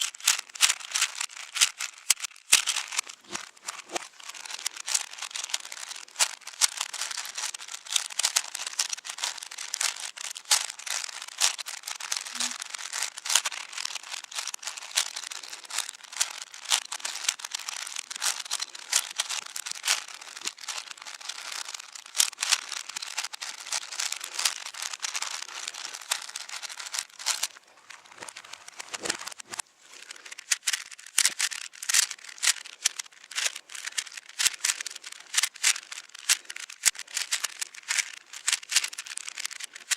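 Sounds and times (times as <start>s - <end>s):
speed cubes clicking: 0.0s - 39.9s.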